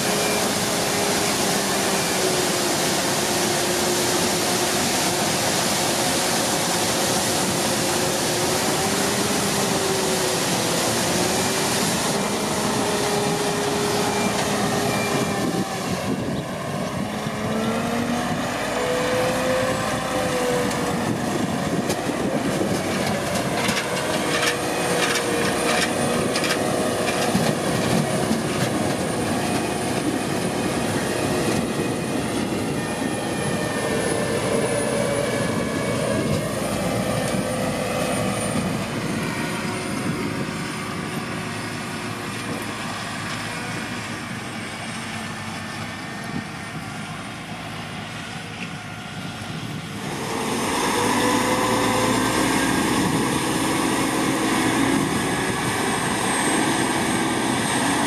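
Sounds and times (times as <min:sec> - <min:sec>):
wavering whine: 0:00.0 - 0:45.2, 0:45.9 - 0:58.0
diesel farm machinery running: 0:00.0 - 0:58.0.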